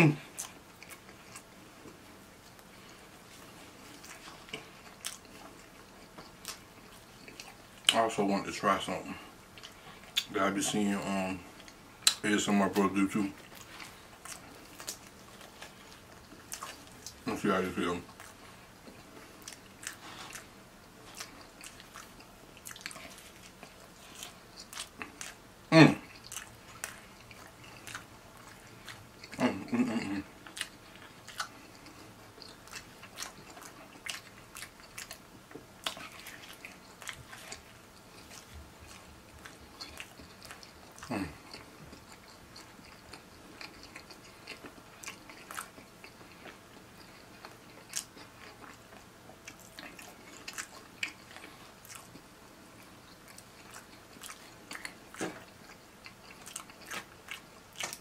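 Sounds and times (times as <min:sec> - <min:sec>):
chewing pizza mouth sounds: 0:00.0 - 0:58.0.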